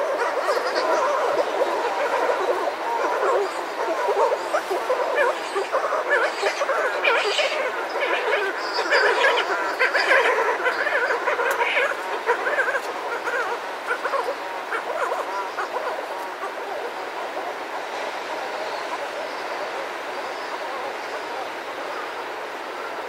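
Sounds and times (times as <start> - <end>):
seabirds calling: 0.0 - 23.0.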